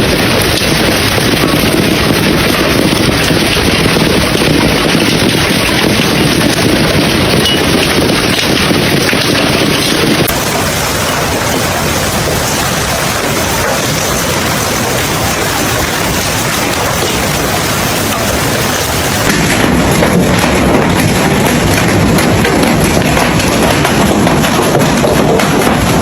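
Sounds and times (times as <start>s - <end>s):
hail and heavy rain pelting: 0.0s - 26.0s.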